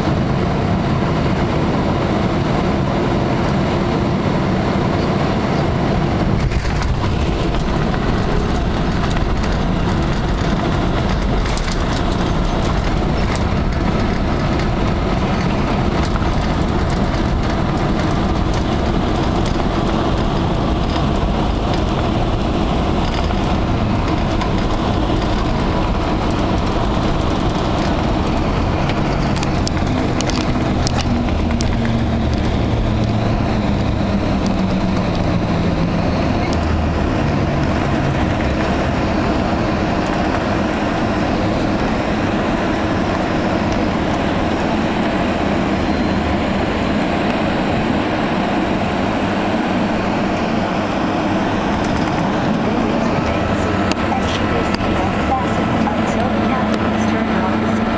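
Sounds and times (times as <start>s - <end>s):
jet cabin roar on runway: 0.0s - 57.9s.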